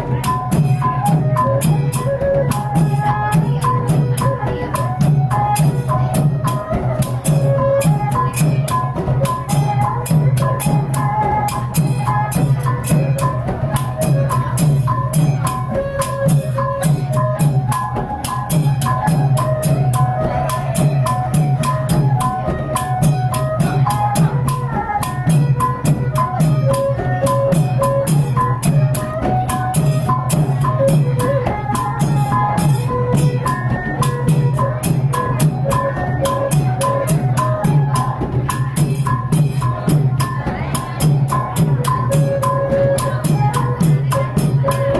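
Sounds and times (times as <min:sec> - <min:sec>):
fast drum and percussion music: 0:00.0 - 0:44.9.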